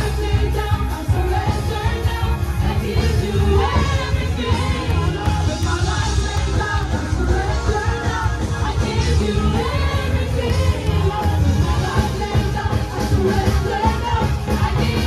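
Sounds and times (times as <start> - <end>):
congregation singing loudly: 0.0 - 15.0
deep bass: 0.0 - 15.0
electric guitar: 0.0 - 15.0.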